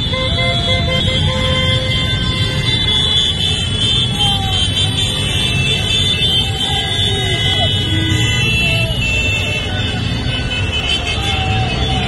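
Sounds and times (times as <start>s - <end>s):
horns honking: 0.0s - 12.0s
scooters and cars passing: 0.0s - 12.0s.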